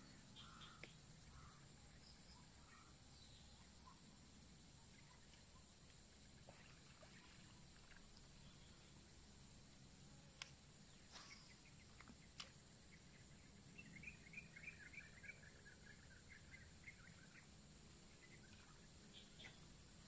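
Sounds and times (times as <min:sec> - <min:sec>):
faint birdsong chirps: 0:00.0 - 0:20.0
steady high hiss: 0:00.0 - 0:20.0.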